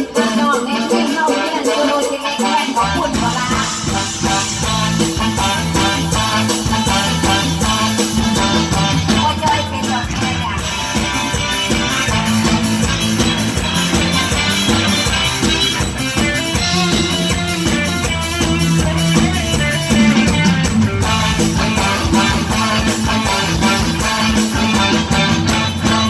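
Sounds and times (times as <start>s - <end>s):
steady drum beat: 0.0s - 26.0s
plucked guitar: 3.0s - 26.0s.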